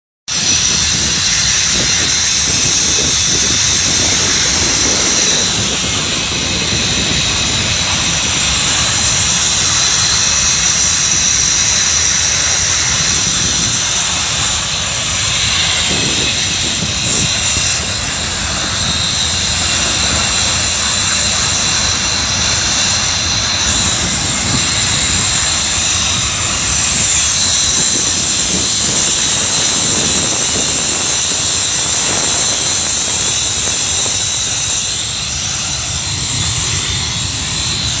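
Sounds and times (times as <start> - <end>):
high whistling tones: 0.3 - 38.0
industrial plant roaring: 0.3 - 38.0
low rumble: 0.3 - 38.0.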